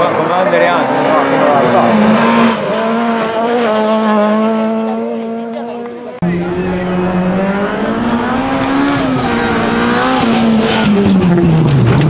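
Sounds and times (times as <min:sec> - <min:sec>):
rally car engine revving: 0:00.0 - 0:12.0
exhaust crackles: 0:01.4 - 0:12.0.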